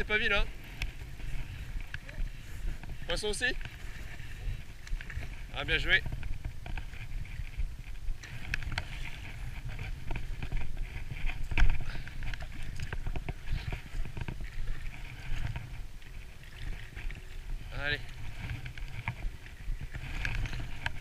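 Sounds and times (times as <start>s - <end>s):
low wind rumble on microphone: 0.0s - 21.0s.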